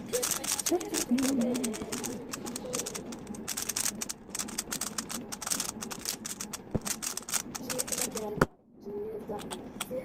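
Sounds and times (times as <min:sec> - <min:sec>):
puzzle cube clicking: 0:00.0 - 0:08.4.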